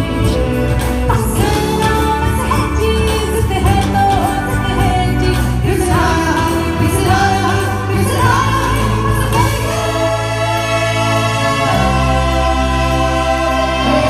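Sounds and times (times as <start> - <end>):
person singing: 0.0 - 14.0
steady bass line: 0.0 - 14.0.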